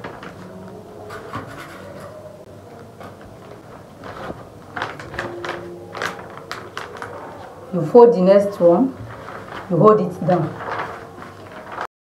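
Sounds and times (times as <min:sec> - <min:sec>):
paper rustling and crinkling: 0:00.0 - 0:11.9.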